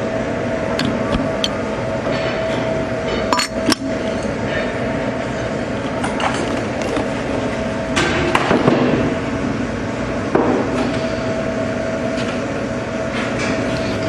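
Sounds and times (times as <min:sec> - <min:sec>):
machine-shop hum: 0:00.0 - 0:14.0.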